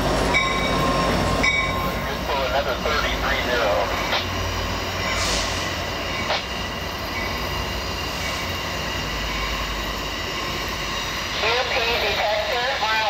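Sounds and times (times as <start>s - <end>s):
diesel engine rumble: 0.0s - 13.0s
wheels squealing on rails: 0.0s - 13.0s.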